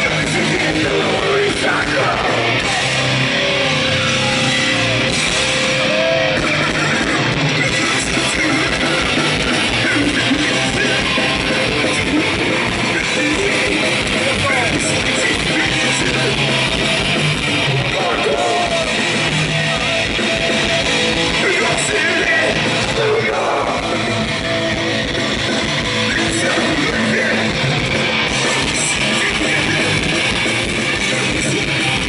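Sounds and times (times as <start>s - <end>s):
bass guitar: 0.0s - 32.0s
distorted electric guitar: 0.0s - 32.0s
drums: 0.0s - 32.0s
shouted lead vocal: 0.0s - 32.0s.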